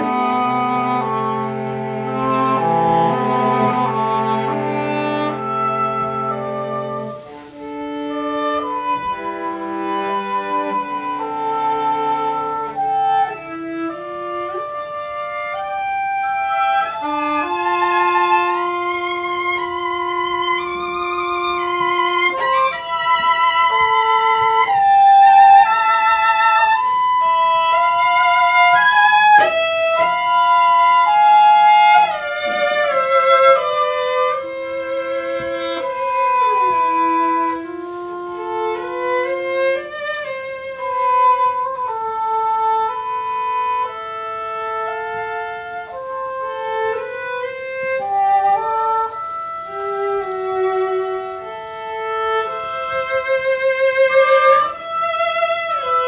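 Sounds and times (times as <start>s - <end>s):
cello: 0.0s - 56.0s
english horn: 0.0s - 56.0s.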